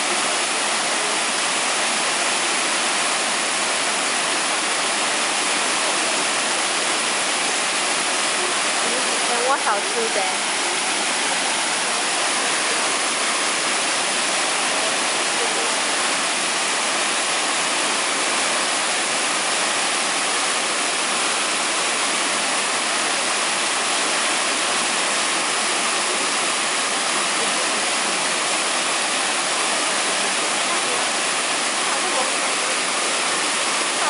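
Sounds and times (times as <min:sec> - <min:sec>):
waterfall rushing over rock: 0:00.0 - 0:34.0.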